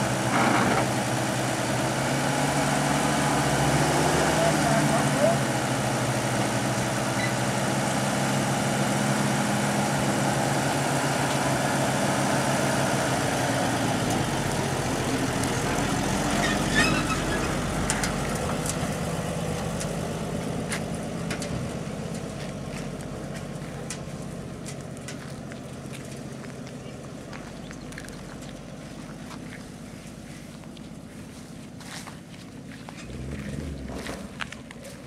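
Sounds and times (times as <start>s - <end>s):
truck driving off: 0.0s - 35.0s
truck engine idling: 0.0s - 35.0s.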